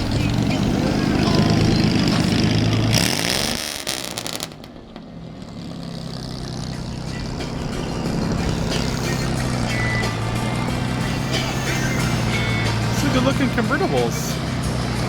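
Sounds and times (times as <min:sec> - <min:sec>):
car engines driving past: 0:00.0 - 0:15.0.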